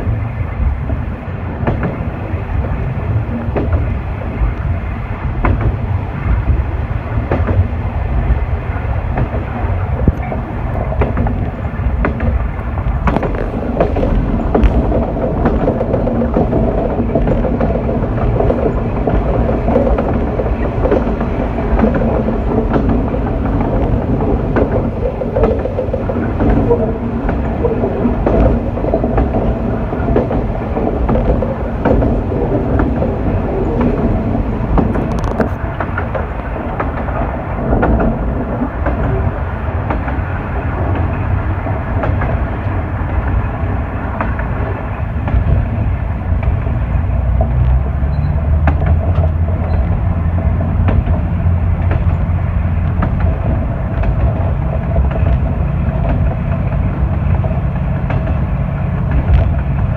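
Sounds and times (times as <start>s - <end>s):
low engine hum: 0.0s - 59.9s
railcar rumble: 0.0s - 59.9s
wheels clicking over rail joints: 0.0s - 59.9s.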